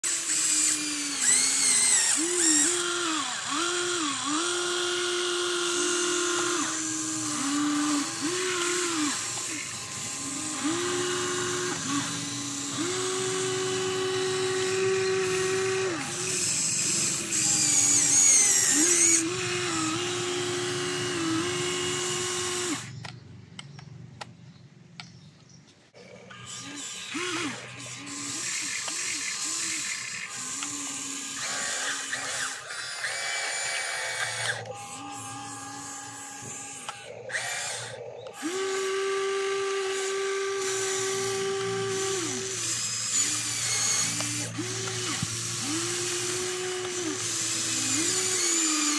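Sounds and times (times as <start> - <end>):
electric motors whining: 0.0 - 23.9, 26.0 - 48.9.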